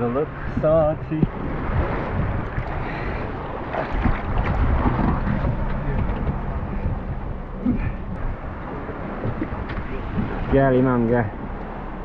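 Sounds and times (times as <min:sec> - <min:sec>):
motorboat engine rumble: 0:00.0 - 0:12.0
wind buffeting microphone: 0:00.0 - 0:12.0.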